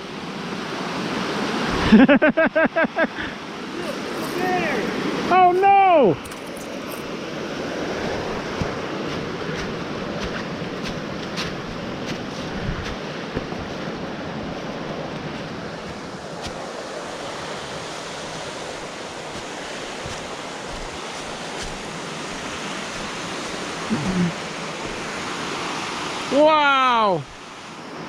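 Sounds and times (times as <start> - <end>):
river water rushing over rocks: 0.0 - 2.2, 3.1 - 28.0.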